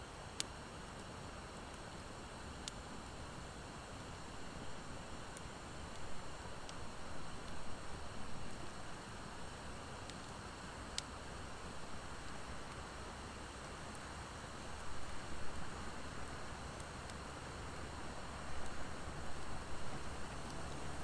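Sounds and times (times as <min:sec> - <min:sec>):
wood fire hissing and crackling: 0:00.1 - 0:21.0.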